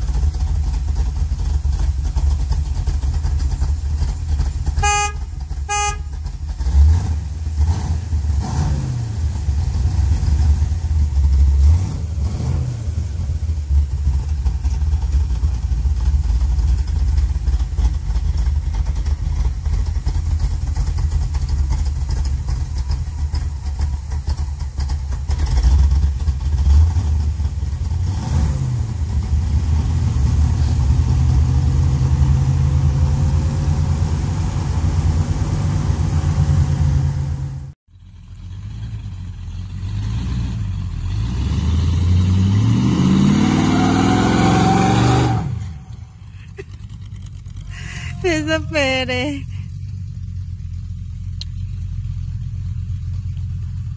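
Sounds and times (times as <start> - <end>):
pickup engine rumbling and revving: 0.0 - 53.9.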